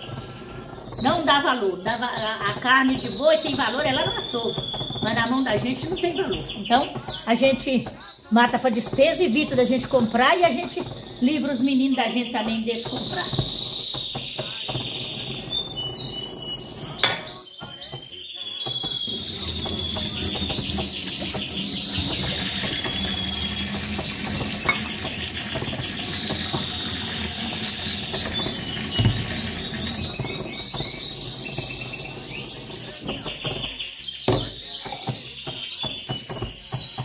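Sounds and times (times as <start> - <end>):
birds chirping: 0.0 - 37.0
noisy background: 0.0 - 37.0.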